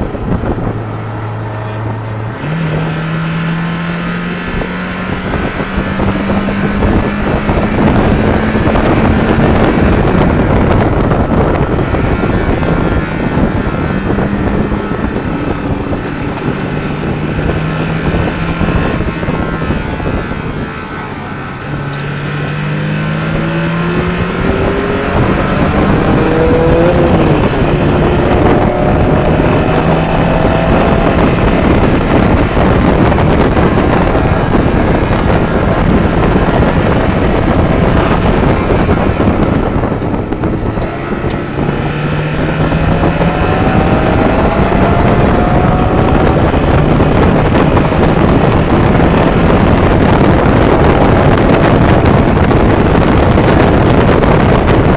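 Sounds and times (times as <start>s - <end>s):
car engine pulling under load: 0.0s - 54.9s
road and wind noise: 0.0s - 54.9s.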